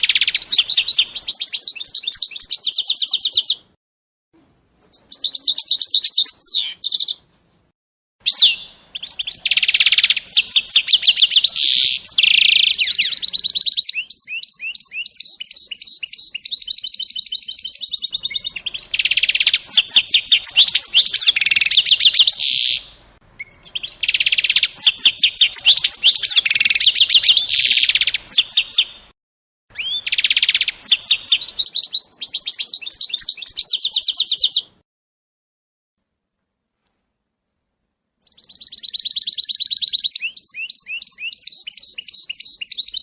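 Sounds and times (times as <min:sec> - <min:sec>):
songbird trilling and chirping: 0:00.0 - 0:03.7, 0:04.8 - 0:07.2, 0:08.3 - 0:29.0, 0:29.7 - 0:34.8, 0:38.2 - 0:43.0.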